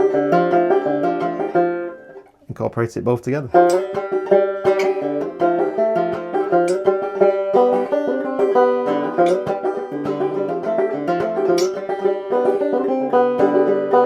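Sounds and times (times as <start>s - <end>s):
banjo plucked melody: 0.0s - 2.5s, 3.5s - 14.0s.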